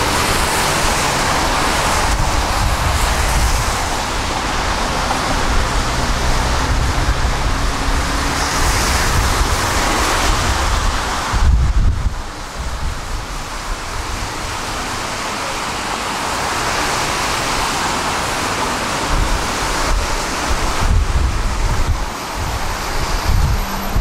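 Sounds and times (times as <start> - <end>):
tram wheels on rails: 0.0 - 24.0.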